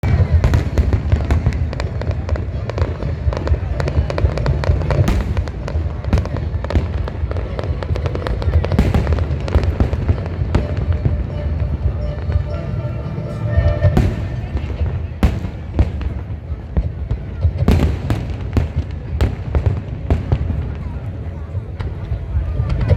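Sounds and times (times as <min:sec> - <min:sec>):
fireworks bangs and crackles: 0:00.0 - 0:22.9
fireworks rumble: 0:00.0 - 0:22.9.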